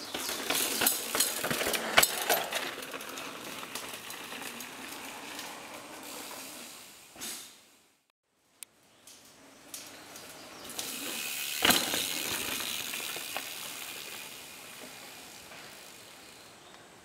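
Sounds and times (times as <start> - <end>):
bike tyres rolling hiss: 0.0 - 8.1, 8.7 - 17.0.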